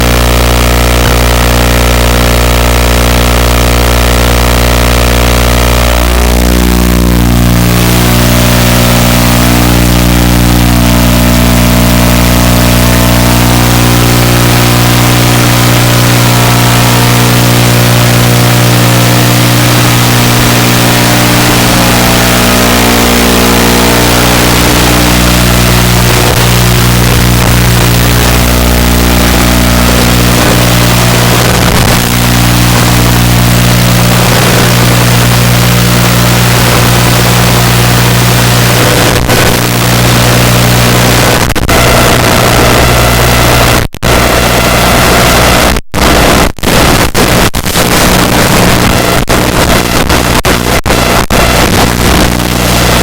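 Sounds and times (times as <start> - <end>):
heavy rushing noise: 5.8 - 53.0.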